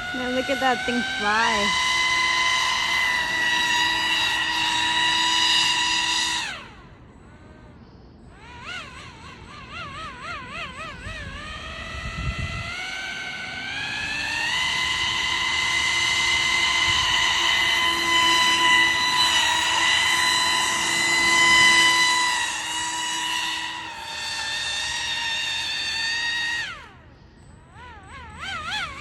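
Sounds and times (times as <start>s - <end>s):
electric motor and propeller whining: 0.0s - 29.0s.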